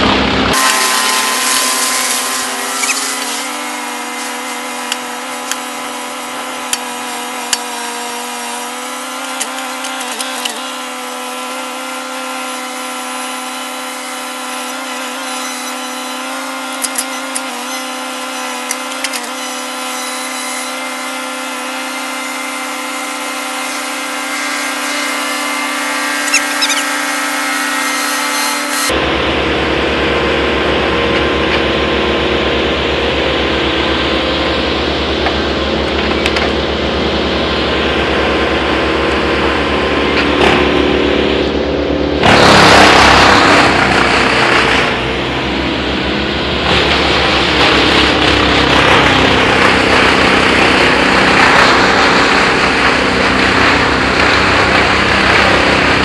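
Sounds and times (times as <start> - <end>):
rough pulsing engine: 0.0 - 56.0
whining machine drone: 0.0 - 56.0
wood chipper grinding: 0.0 - 56.0.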